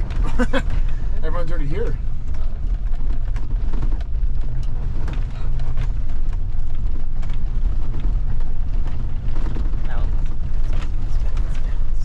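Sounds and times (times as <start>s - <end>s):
pickup truck driving rumble: 0.0s - 12.0s.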